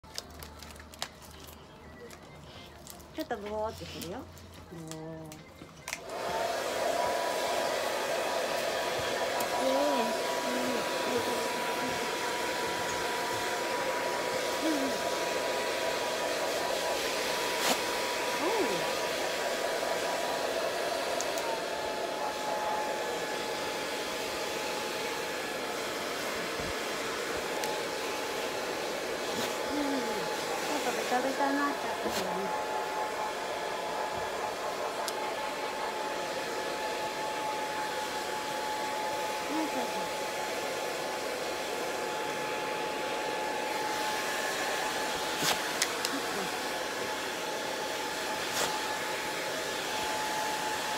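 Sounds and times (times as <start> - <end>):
hair dryer blowing: 6.0 - 50.9.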